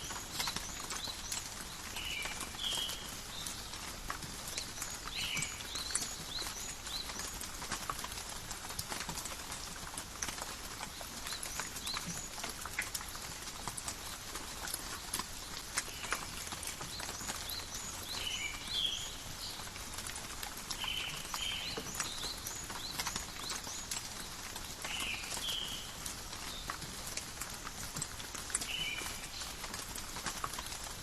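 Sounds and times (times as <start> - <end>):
rain dripping on leaves: 0.0 - 31.0.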